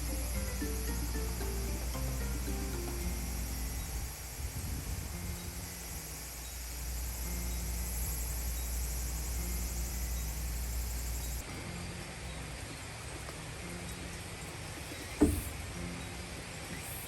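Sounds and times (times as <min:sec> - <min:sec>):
high hiss: 0:00.0 - 0:17.0.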